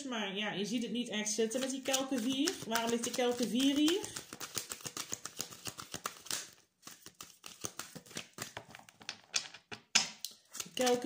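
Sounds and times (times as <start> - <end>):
cards being shuffled: 1.4 - 9.6, 10.3 - 11.0.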